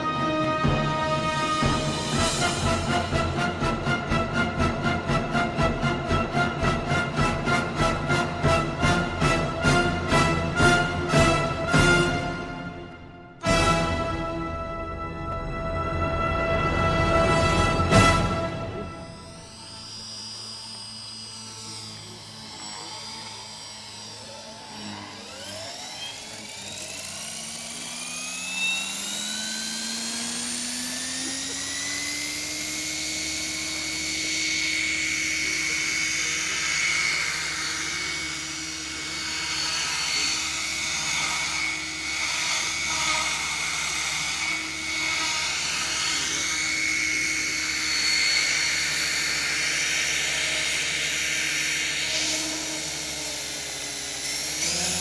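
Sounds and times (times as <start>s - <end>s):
model helicopter motor whine: 0.0s - 16.0s, 16.7s - 55.0s.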